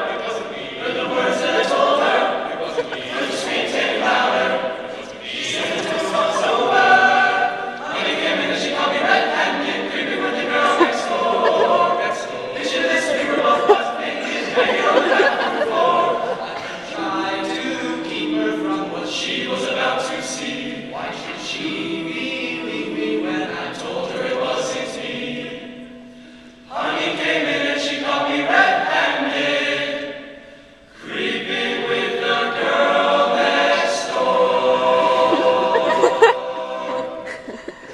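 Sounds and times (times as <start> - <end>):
men singing a cappella harmony: 0.0 - 26.0, 26.6 - 37.9.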